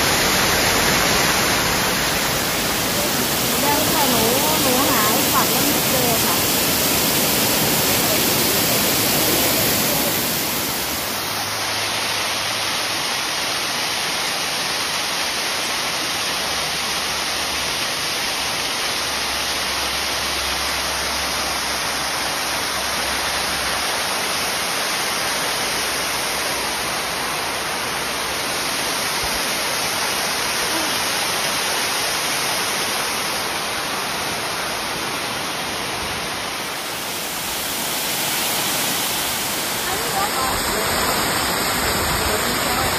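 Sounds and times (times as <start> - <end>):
waterfall rushing over rocks: 0.0 - 42.9.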